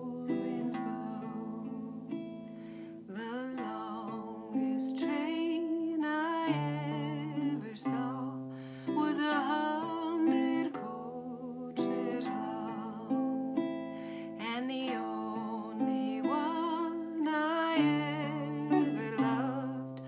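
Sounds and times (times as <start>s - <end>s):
classical guitar chords: 0.0s - 20.0s
woman singing folk melody: 0.0s - 20.0s.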